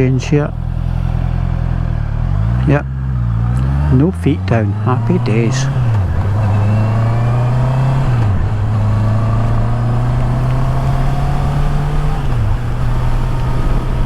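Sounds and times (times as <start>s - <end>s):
motorcycle engine accelerating: 0.0s - 14.0s
wind and road noise: 0.0s - 14.0s.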